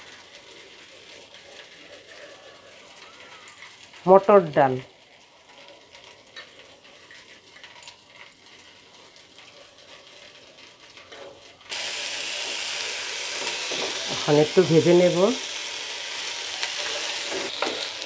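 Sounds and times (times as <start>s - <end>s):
food sizzling in pot: 0.0s - 18.0s.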